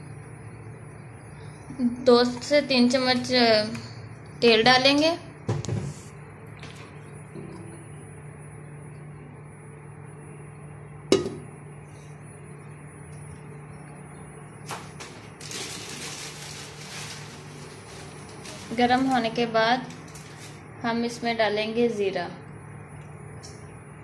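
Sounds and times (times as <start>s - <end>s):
gas stove hum: 0.0s - 24.0s.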